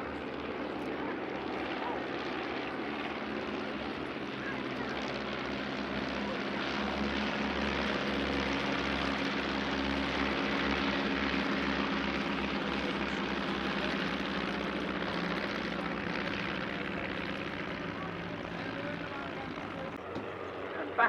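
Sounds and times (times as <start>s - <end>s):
propeller planes droning past: 0.0s - 21.0s.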